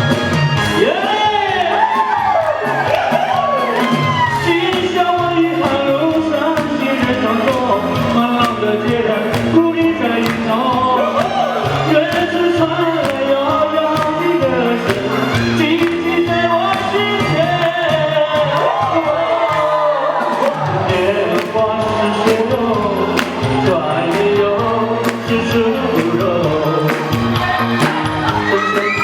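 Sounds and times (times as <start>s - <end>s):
bass line: 0.0s - 29.0s
steady beat: 0.0s - 29.0s.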